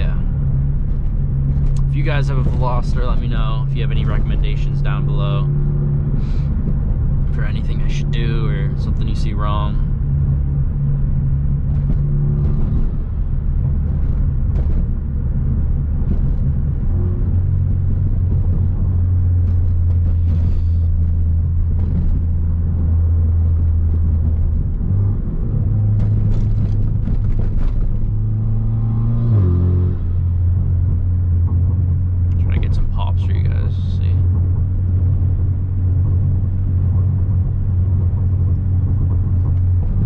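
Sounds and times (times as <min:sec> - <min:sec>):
car engine droning in cabin: 0:00.0 - 0:40.0.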